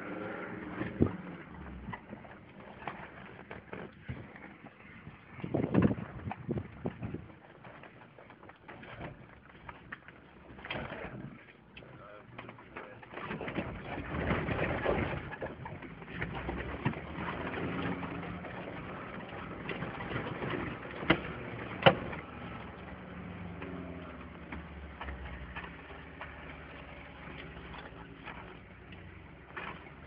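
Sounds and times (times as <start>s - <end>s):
engine droning: 0.0s - 30.0s
body rattling and knocking: 0.8s - 30.0s.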